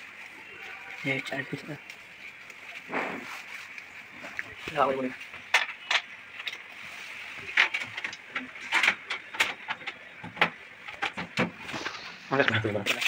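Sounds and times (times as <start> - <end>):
steady hiss: 0.0 - 9.8, 10.7 - 13.0.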